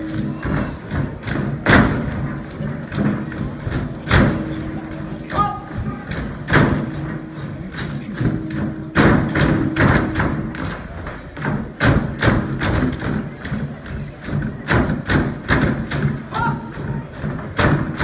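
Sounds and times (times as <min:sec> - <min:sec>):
feet stamping on a stage: 0:00.0 - 0:18.0.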